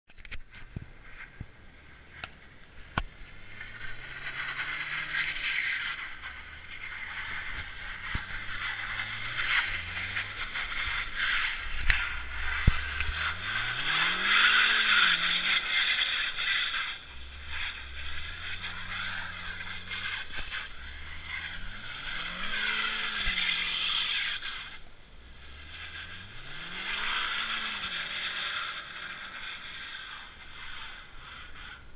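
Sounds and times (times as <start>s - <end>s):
tyres spinning on snow: 1.0s - 31.9s
car engine revving: 1.8s - 31.9s.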